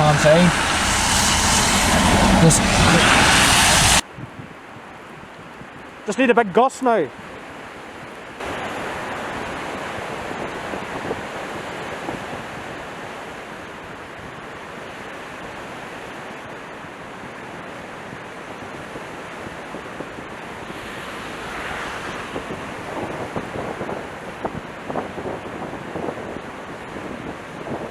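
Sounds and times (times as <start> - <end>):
gusting wind on microphone: 0.0 - 6.0, 7.1 - 27.9.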